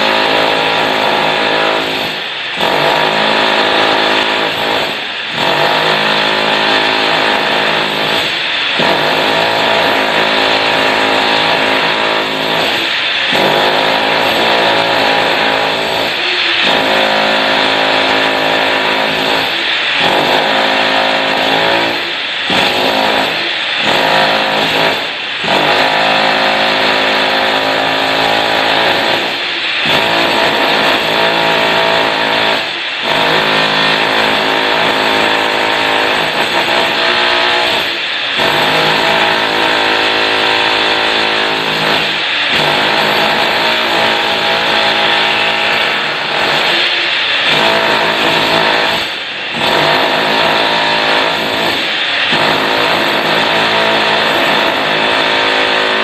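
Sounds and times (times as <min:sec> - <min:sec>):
demolition hammer chipping tiles: 0:00.0 - 0:56.0.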